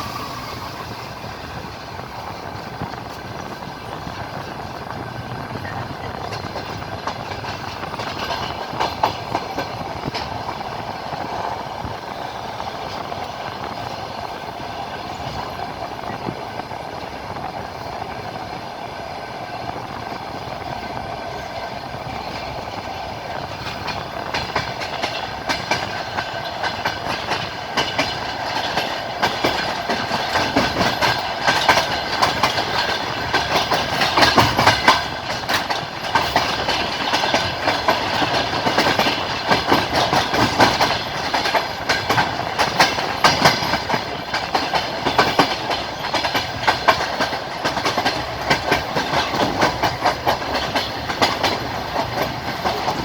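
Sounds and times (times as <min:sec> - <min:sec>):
train wheels clattering over rail joints: 0:00.0 - 0:53.0.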